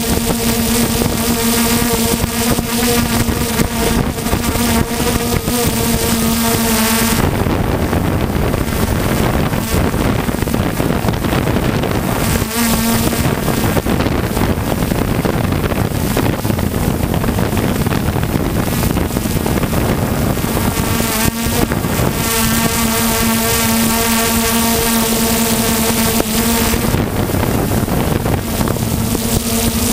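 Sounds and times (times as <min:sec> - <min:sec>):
drone motors buzzing: 0:00.0 - 0:29.9
steady whining tone: 0:00.0 - 0:29.9
wind on microphone: 0:00.0 - 0:29.9.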